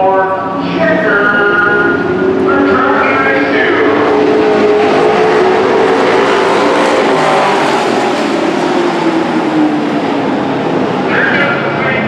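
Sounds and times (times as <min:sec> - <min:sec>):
truck engines racing by: 0:00.0 - 0:12.0.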